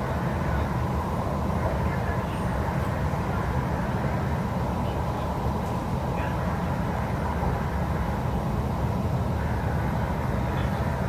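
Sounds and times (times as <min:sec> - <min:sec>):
train rumble and hiss from inside: 0:00.0 - 0:11.0.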